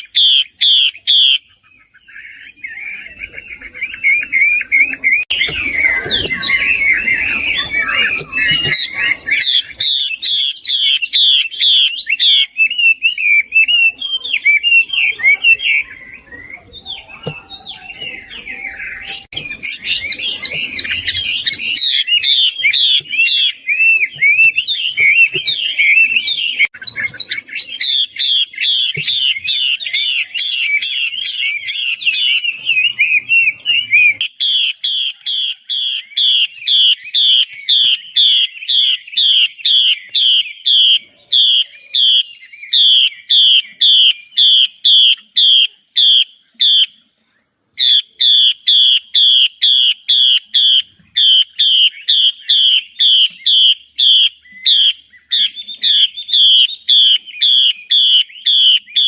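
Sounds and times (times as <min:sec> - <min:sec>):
bird calling with varied warble: 0:00.0 - 0:47.1, 0:47.7 - 0:59.0.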